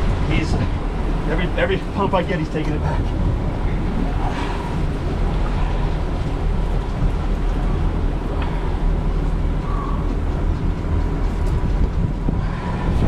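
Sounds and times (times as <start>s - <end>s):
boat outboard engines humming: 0.0s - 13.0s
water noise: 0.0s - 13.0s
wind noise: 0.0s - 13.0s.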